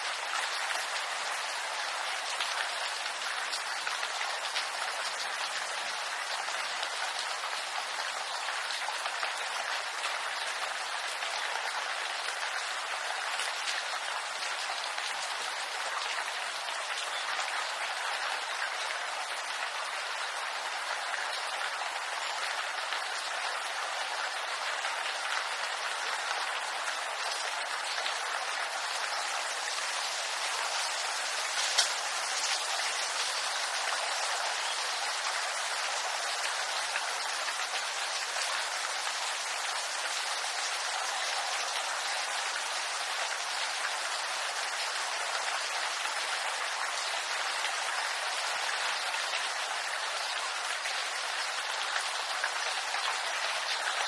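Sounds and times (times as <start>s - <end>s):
rain hissing on leaves: 0.0s - 54.0s.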